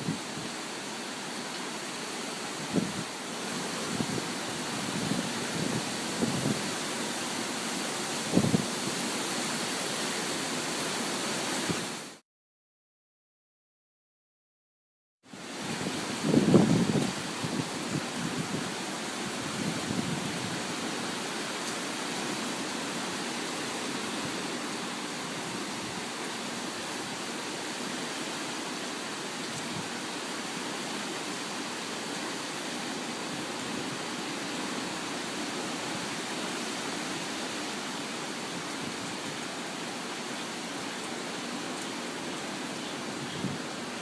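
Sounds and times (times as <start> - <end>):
heavy rain: 0.0 - 12.2, 15.3 - 44.0.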